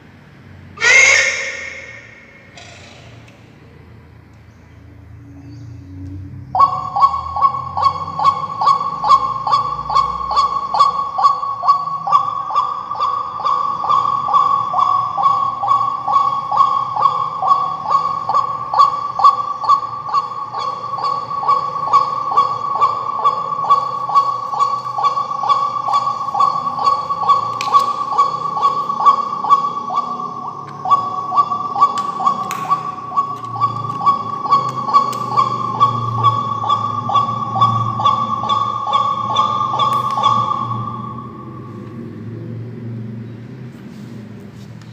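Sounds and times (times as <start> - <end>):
recorded bird call: 0.7 - 43.5.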